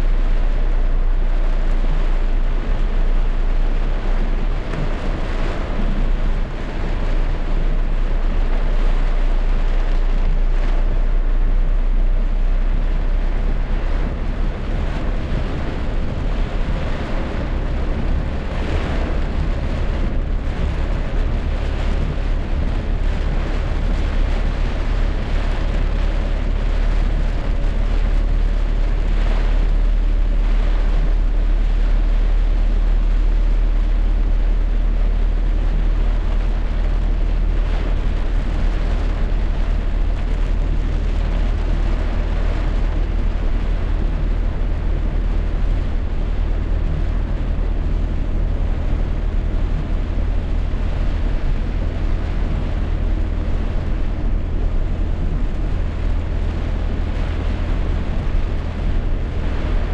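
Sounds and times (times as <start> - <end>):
deep continuous rumble: 0.0 - 59.9
rain: 0.0 - 59.9
wind: 0.0 - 59.9.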